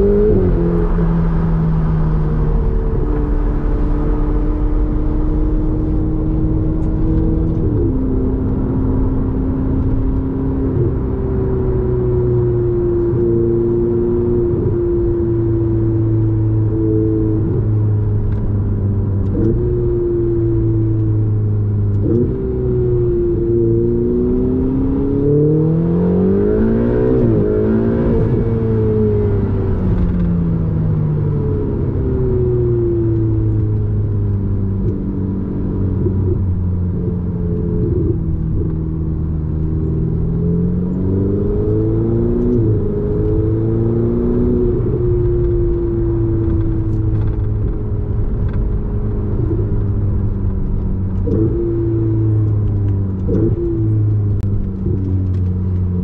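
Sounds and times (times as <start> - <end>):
road and tyre drone: 0.0 - 56.0
sports car engine revving: 0.0 - 56.0.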